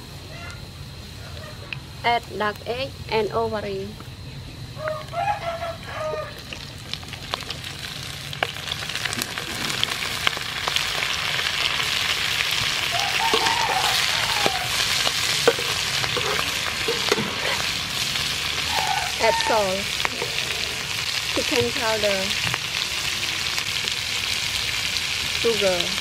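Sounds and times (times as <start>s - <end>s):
food sizzling in oil: 4.8s - 26.0s.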